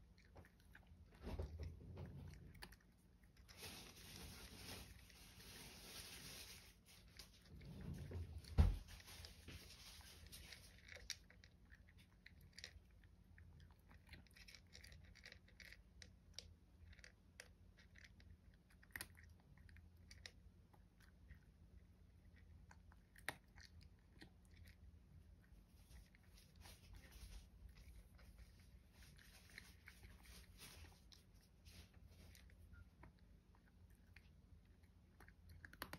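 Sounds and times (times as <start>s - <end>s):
cat crunching dry kibble: 0.0s - 35.9s.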